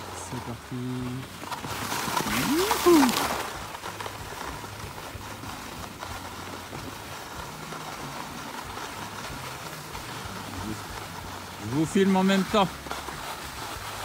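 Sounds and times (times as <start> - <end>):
skis sliding on snow: 0.0 - 14.0.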